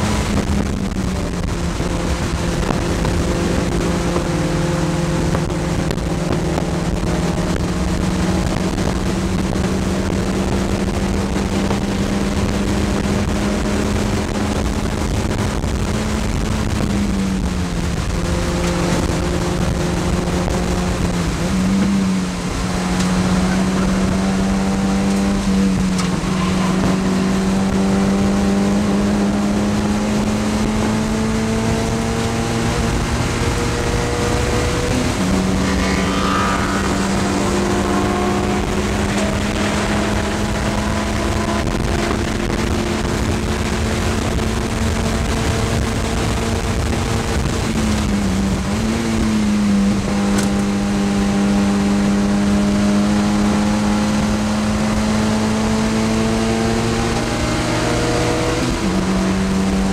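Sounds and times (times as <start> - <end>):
race car engine running hard: 0.0 - 59.9
road and wind noise: 0.0 - 59.9.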